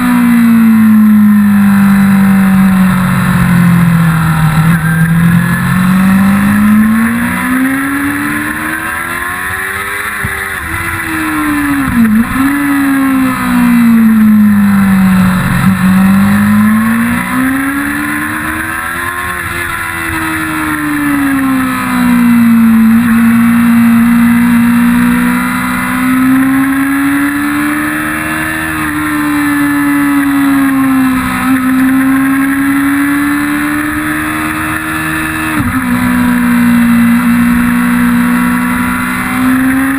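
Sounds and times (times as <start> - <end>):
motorcycle engine accelerating and braking: 0.0 - 39.9.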